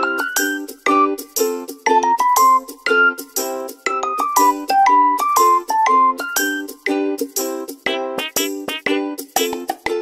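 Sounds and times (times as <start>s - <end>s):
plucked notes music: 0.0s - 10.0s.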